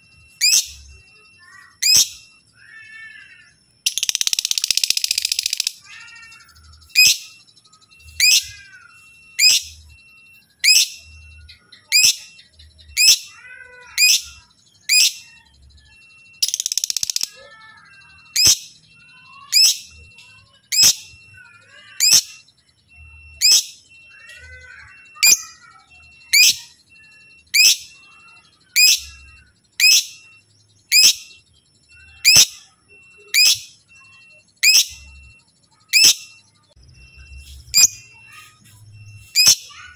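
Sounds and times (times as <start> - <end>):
lovebird chirping: 0.0 - 39.9
harsh chattering bird call: 0.4 - 9.8, 10.6 - 15.4, 16.4 - 18.8, 19.4 - 22.4, 23.0 - 39.9.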